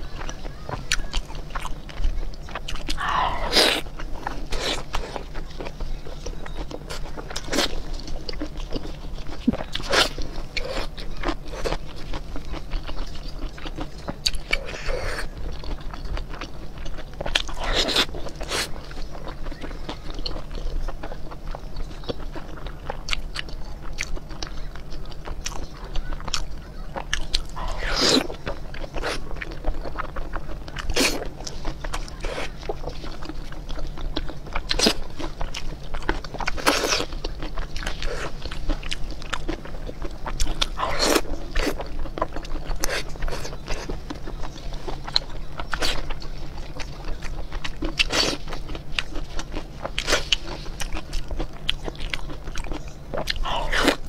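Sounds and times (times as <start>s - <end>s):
wet chewing and smacking: 0.0s - 54.0s.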